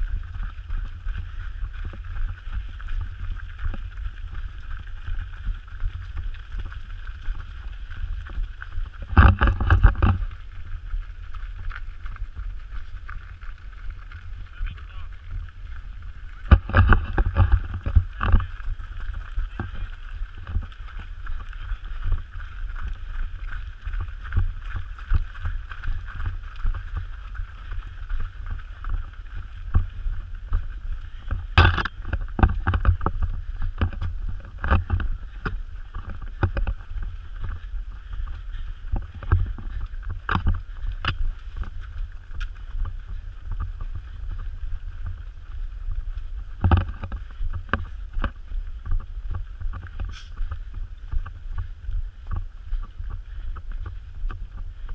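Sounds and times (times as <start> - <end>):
running footsteps on dirt: 0.0 - 54.9
wind rumble on microphone: 0.0 - 54.9.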